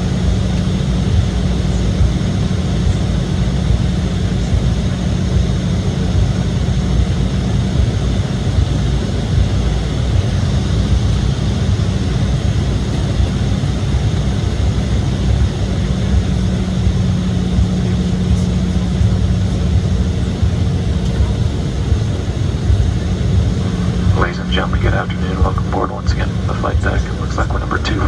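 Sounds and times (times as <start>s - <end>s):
jet cabin engine drone: 0.0s - 28.0s.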